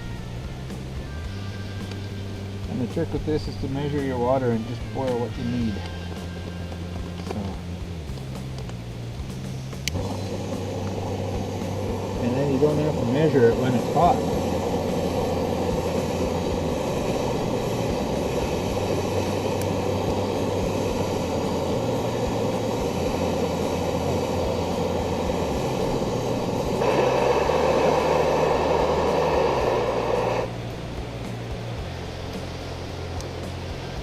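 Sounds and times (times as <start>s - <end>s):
camp stove burner roaring: 0.0s - 34.0s.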